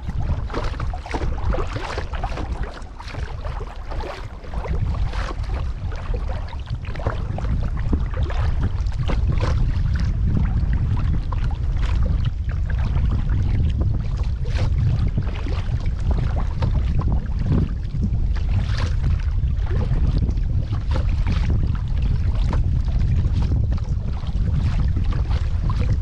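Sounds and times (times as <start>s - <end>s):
paddle splashing water: 0.0s - 26.0s
wind rumble on microphone: 0.0s - 26.0s.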